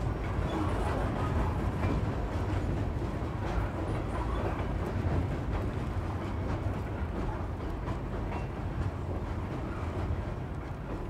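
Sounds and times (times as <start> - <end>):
freight train rumbling on bridge: 0.0 - 11.0.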